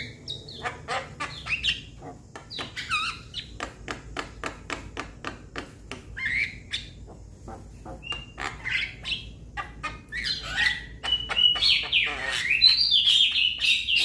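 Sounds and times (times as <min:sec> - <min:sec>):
young starlings calling: 0:00.0 - 0:03.7, 0:06.2 - 0:14.0.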